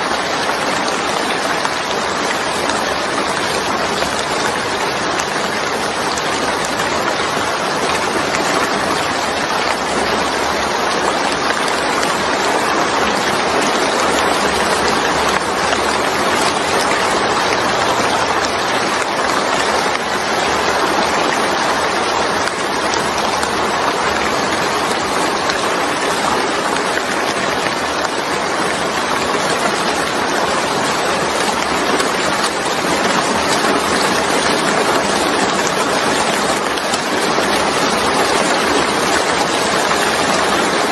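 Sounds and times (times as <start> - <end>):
steady rain on wet surface: 0.0 - 40.9.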